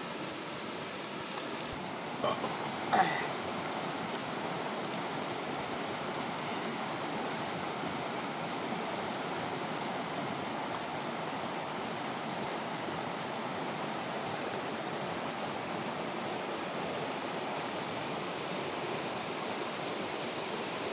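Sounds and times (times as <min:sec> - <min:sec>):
stream rushing over cascades: 0:00.0 - 0:20.9.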